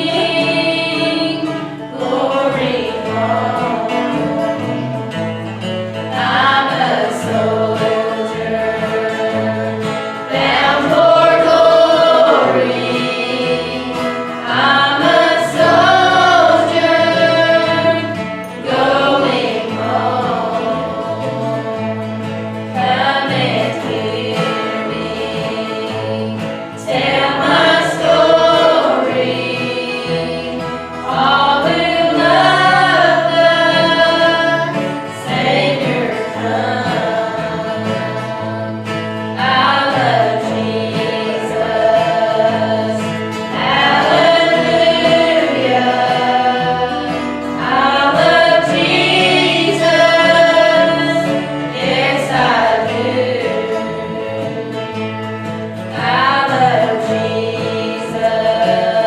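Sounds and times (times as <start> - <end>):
choir singing gospel: 0.0 - 59.0
instrumental accompaniment: 0.0 - 59.0.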